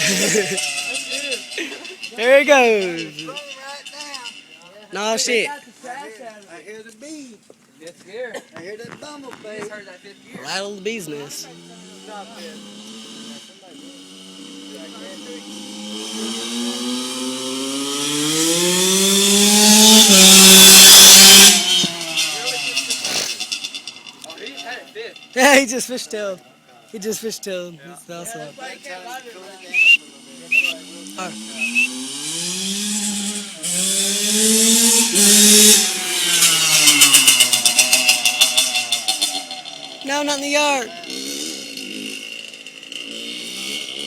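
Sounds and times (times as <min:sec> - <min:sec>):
two-stroke motorcycle engine revving: 0:00.0 - 0:05.6, 0:09.0 - 0:26.4, 0:28.1 - 0:44.0.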